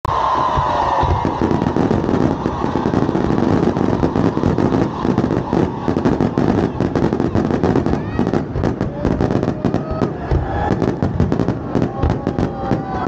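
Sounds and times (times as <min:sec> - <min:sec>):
fireworks popping and crackling: 0:00.1 - 0:13.0.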